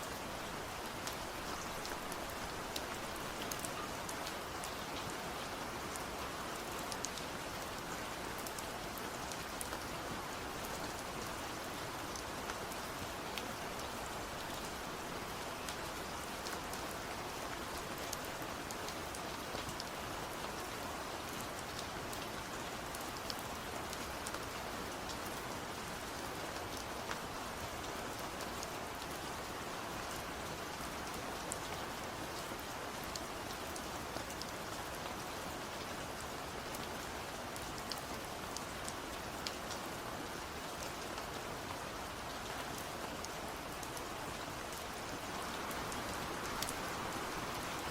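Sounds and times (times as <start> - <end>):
steady rain hiss: 0.0 - 47.9.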